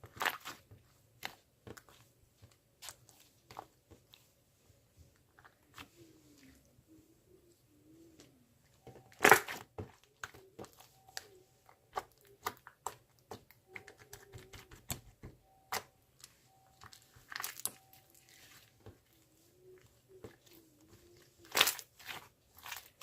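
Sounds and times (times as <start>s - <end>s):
material crackling and crinkling: 0.0s - 23.0s.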